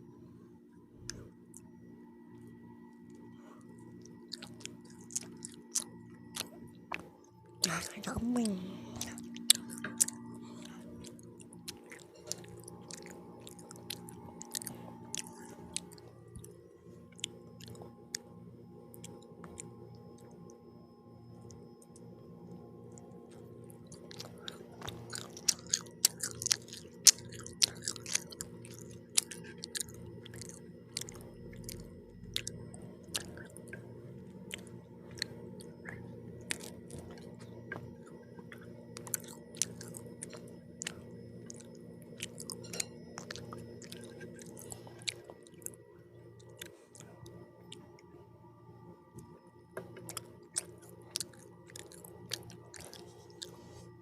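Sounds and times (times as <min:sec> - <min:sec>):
chewing and biting pizza: 0:03.2 - 0:18.3, 0:18.9 - 0:20.4, 0:22.9 - 0:45.8, 0:46.4 - 0:48.0, 0:49.8 - 0:54.0.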